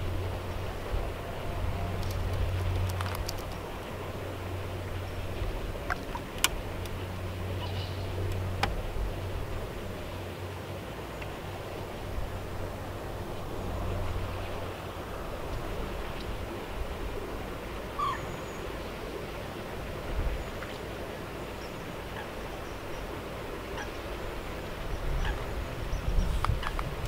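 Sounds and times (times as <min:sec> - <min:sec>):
steady rushing noise: 0:00.0 - 0:18.0, 0:18.6 - 0:27.0.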